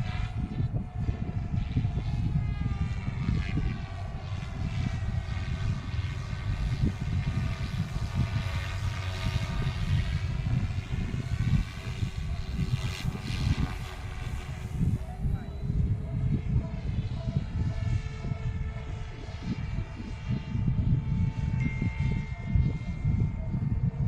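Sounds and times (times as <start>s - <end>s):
rc helicopter motor whine: 0.0s - 24.0s
wind rumbling on microphone: 0.0s - 24.0s.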